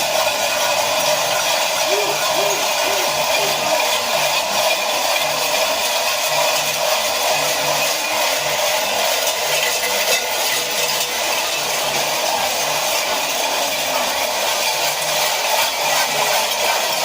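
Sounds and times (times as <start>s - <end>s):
cowbells clanging: 0.0s - 17.0s.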